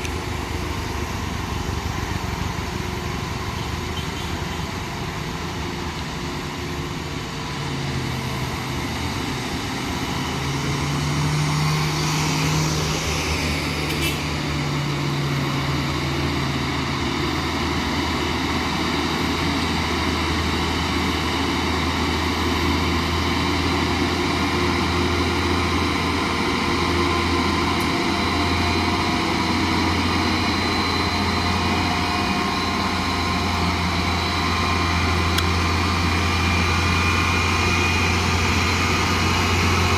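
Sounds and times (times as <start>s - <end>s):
truck diesel engine labouring: 0.0s - 39.9s.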